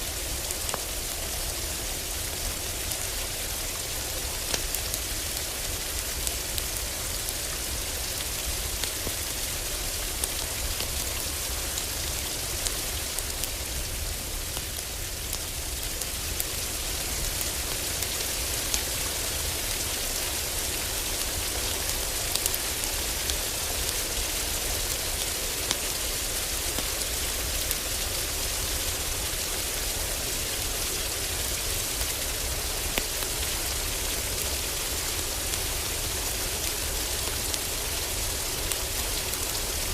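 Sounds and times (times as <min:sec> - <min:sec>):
heavy rain on a roof: 0:00.0 - 0:39.9
wood fire crackling: 0:00.2 - 0:39.9.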